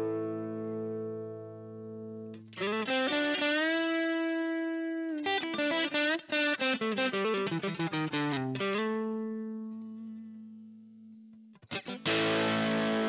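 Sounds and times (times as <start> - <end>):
overdriven electric guitar: 0.0 - 13.0.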